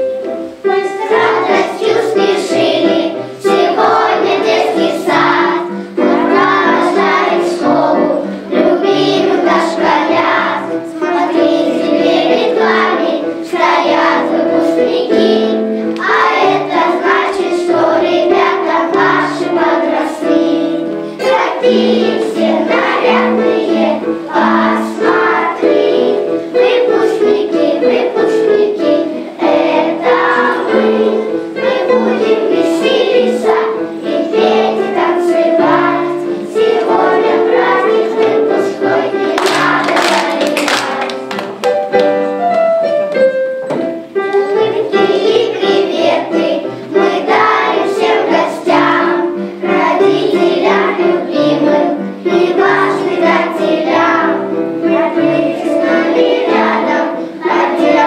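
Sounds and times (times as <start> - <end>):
children singing: 0.0 - 41.5, 44.1 - 58.0
children's song music: 0.0 - 58.0.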